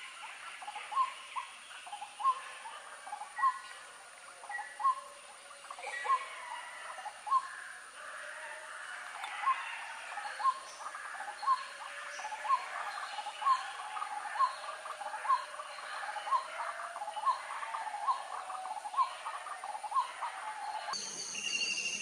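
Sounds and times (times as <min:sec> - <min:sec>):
outdoor ambience: 0:00.0 - 0:22.0.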